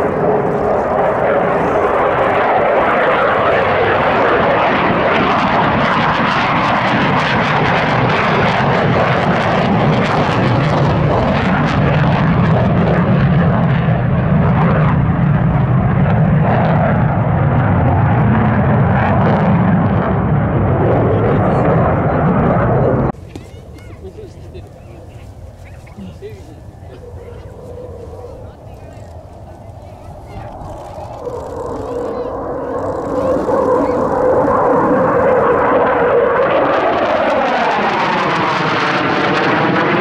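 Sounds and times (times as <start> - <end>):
jet aircraft flying past: 0.0 - 40.0.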